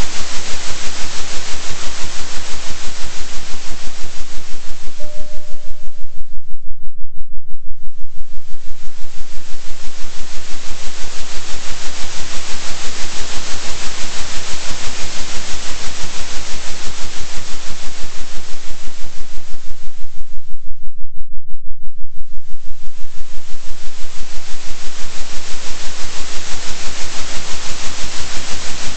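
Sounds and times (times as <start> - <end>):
pulsing synthetic hiss: 0.0 - 6.2, 8.1 - 20.0, 22.6 - 28.9
steady low hum: 0.0 - 28.9.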